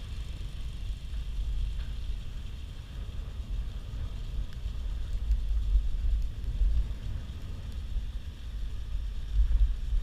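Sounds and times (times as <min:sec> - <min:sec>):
steady high hiss: 0:00.0 - 0:10.0
wind buffeting microphone: 0:00.0 - 0:10.0.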